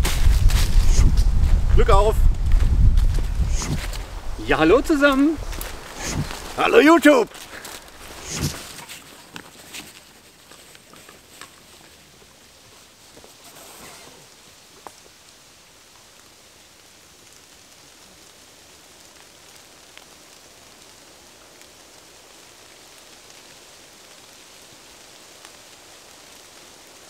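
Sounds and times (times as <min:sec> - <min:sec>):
rain falling in forest: 0:00.0 - 0:27.0.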